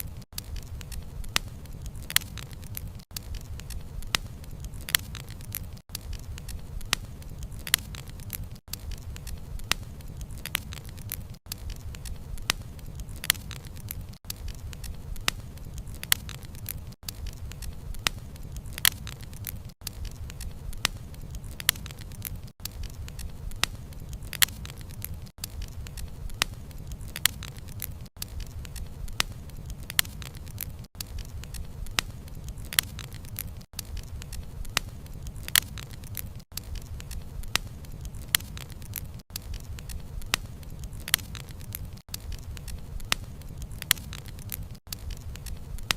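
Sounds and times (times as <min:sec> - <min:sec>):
bonfire wood snapping and popping: 0:00.0 - 0:45.9
low rumble of flames: 0:00.0 - 0:45.9.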